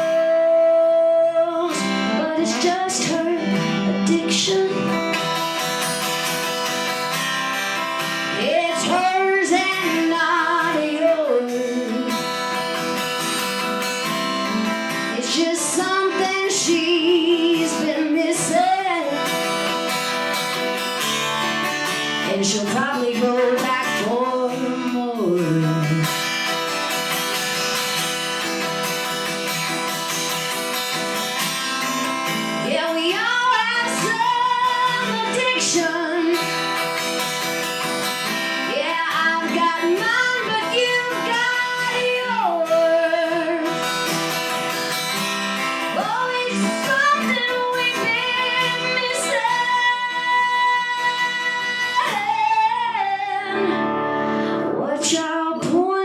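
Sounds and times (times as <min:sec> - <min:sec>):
acoustic guitar music: 0:00.0 - 0:56.0.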